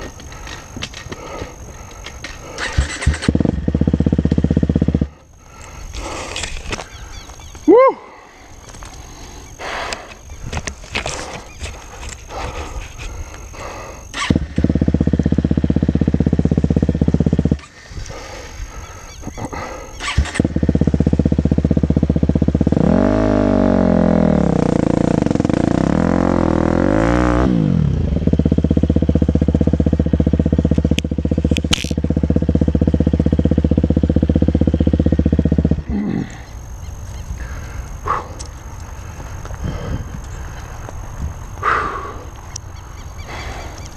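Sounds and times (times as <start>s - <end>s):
motocross engine running: 0.0s - 7.5s, 10.8s - 42.1s.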